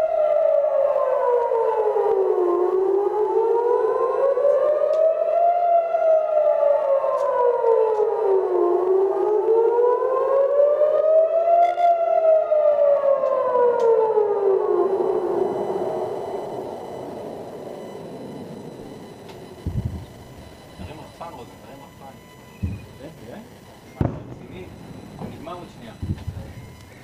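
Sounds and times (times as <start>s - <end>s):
siren wailing: 0.0s - 27.0s.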